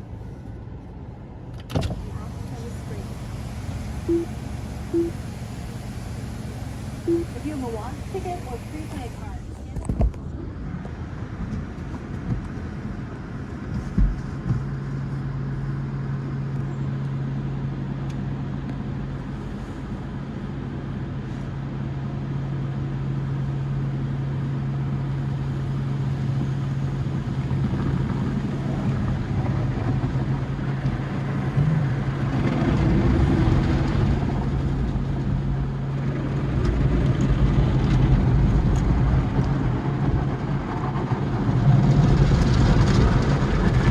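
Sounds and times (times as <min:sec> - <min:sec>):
car wash machinery hum: 0:00.0 - 0:43.9.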